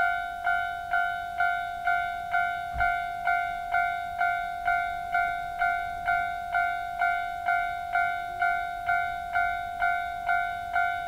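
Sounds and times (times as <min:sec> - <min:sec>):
level crossing warning bell: 0:00.0 - 0:11.0.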